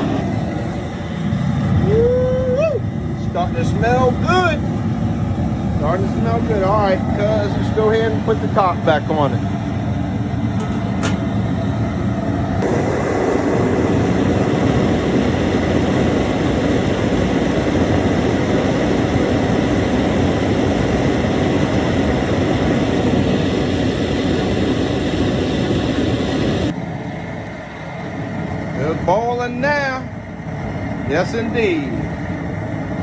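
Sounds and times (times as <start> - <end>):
propane burner rushing: 0.0 - 33.0.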